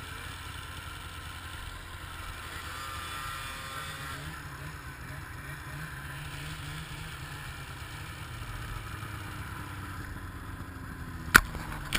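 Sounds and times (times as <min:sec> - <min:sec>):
snowmobile engines running: 0:00.0 - 0:11.9.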